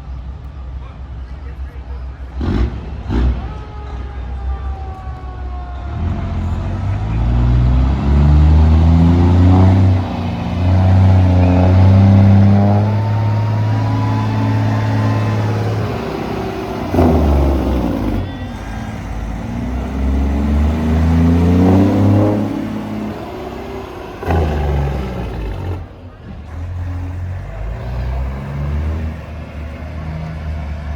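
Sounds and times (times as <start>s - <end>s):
truck diesel engine revving: 2.3s - 3.6s, 6.0s - 30.9s.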